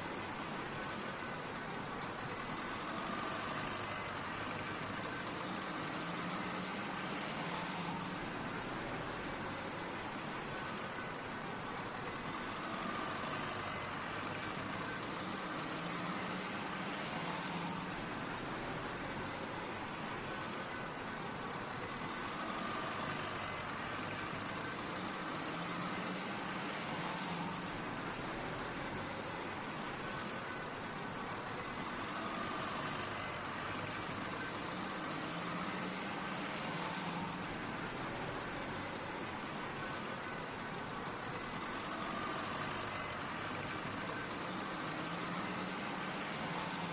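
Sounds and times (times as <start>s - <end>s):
motorway traffic rushing: 0.0s - 46.9s.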